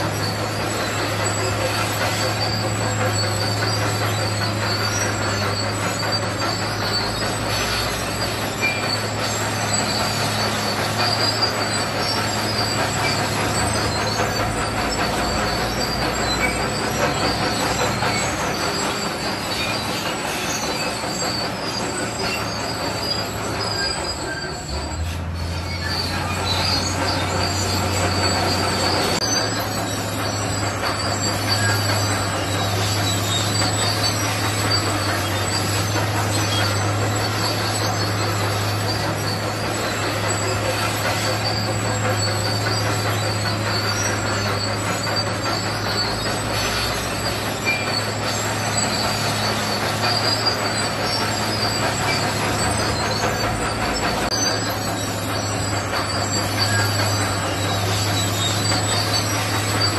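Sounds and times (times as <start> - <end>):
bulldozer diesel engine: 0.0 - 59.9
steel tracks clattering and squealing: 0.0 - 59.9.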